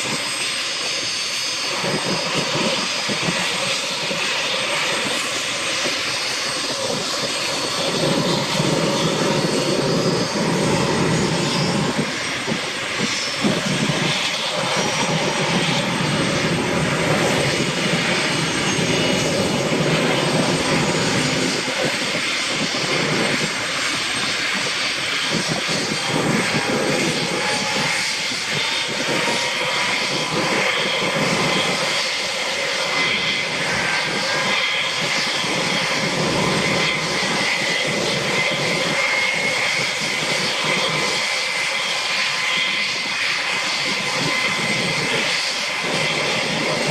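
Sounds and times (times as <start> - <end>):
helicopter turbine whine: 0.0 - 46.9.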